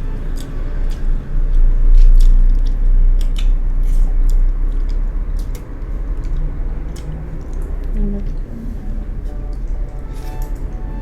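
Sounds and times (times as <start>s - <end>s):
steady low hum: 0.0s - 11.0s
chewing and lip smacks: 0.3s - 10.8s.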